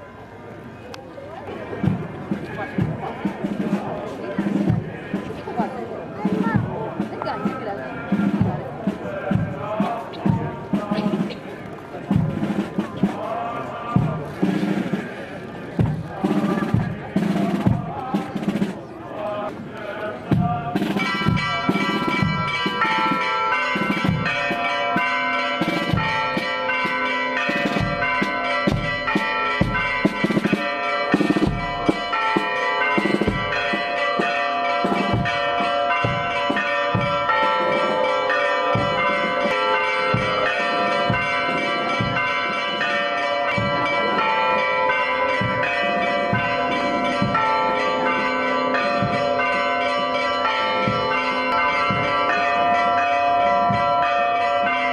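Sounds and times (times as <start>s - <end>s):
church bells pealing: 0.0s - 18.9s, 20.2s - 54.9s.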